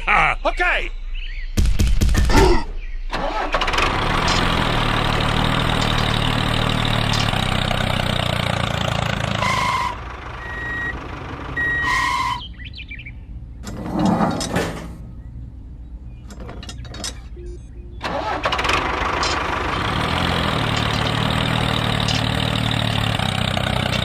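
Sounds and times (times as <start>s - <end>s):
engine running: 3.2s - 24.0s.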